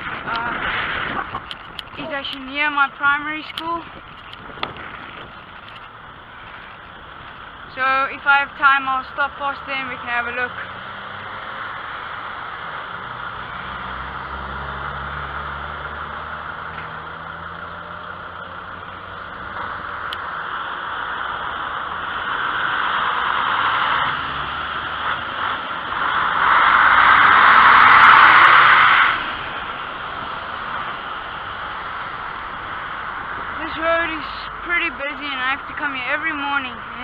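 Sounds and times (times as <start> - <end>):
low engine hum: 0.0 - 37.0
road traffic: 0.0 - 37.0
vehicle passing close: 0.0 - 37.0.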